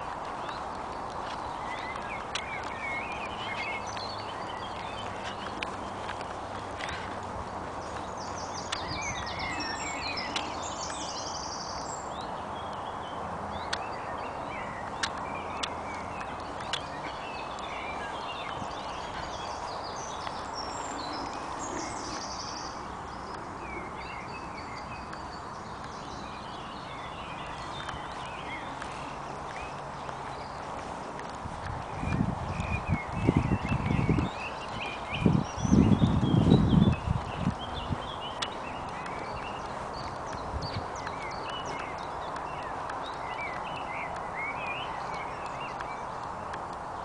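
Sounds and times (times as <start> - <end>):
wild birds singing: 0.0 - 47.0.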